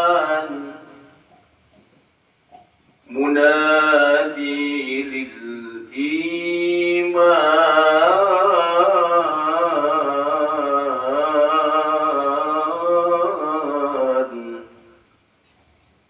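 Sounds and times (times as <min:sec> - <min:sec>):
man reciting melodically: 0:00.0 - 0:01.2, 0:03.1 - 0:15.0.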